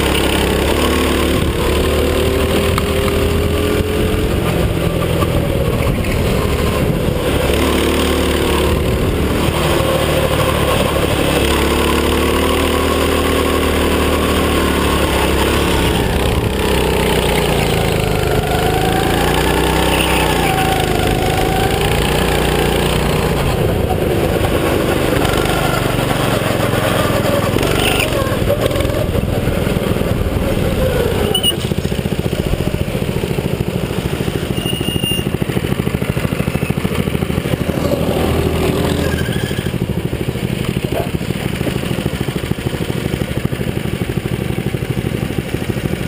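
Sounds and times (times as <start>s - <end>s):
go-kart engine revving: 0.0s - 46.0s.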